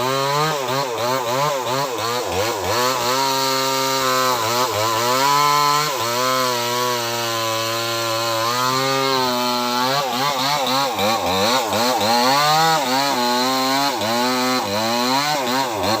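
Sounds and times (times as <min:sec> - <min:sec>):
chainsaw cutting tree trunk: 0:00.0 - 0:16.0.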